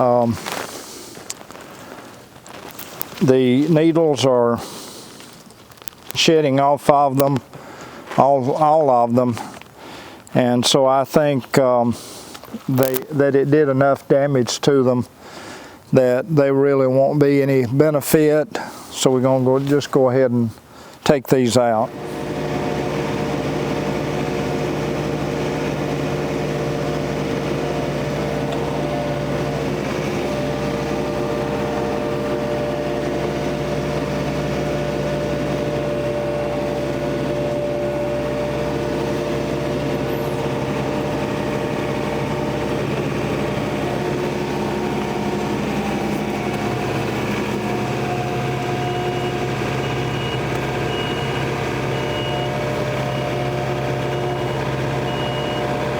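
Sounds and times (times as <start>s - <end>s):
tractor diesel engine running: 0.0s - 14.3s, 21.6s - 55.9s.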